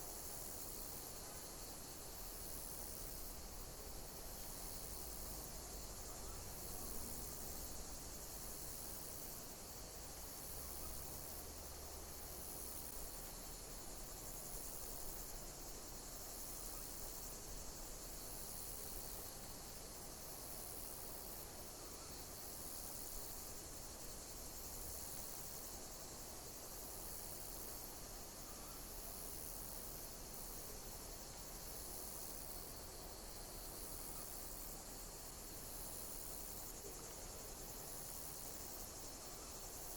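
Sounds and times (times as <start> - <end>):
high-pitched insect hiss: 0.0 - 39.9.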